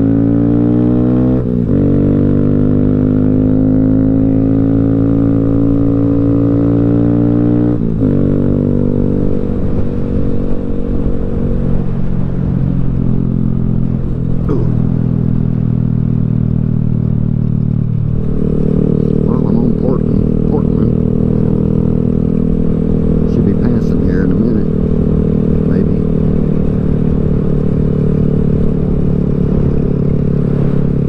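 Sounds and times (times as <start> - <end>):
motorcycle engine running: 0.0 - 31.0
road noise: 0.0 - 31.0.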